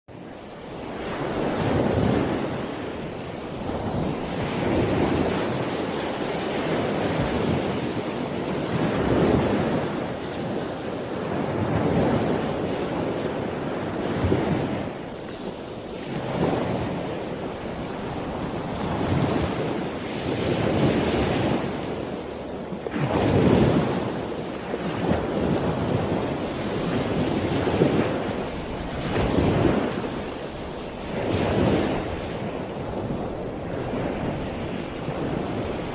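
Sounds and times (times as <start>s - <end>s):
wind on microphone: 0.1s - 35.9s
lake water washing: 0.3s - 35.9s.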